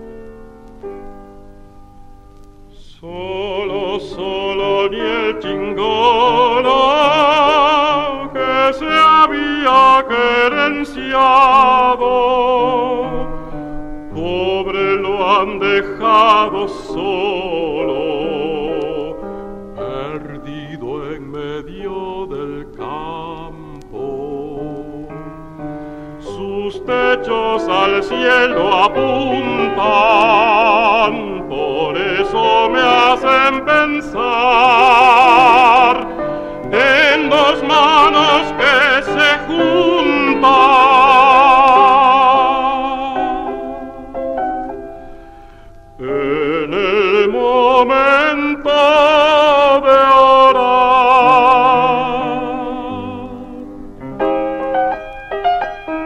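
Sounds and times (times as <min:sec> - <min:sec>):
piano accompaniment: 0:00.0 - 0:56.0
baritone singing with vibrato: 0:02.7 - 0:44.8, 0:45.9 - 0:56.0.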